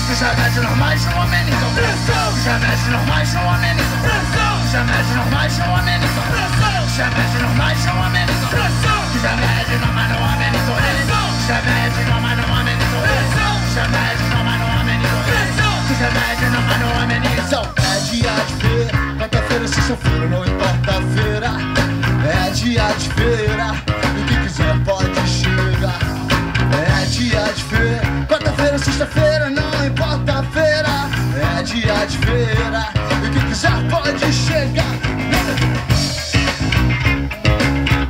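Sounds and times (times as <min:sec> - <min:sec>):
live rock band playing: 0:00.0 - 0:38.0.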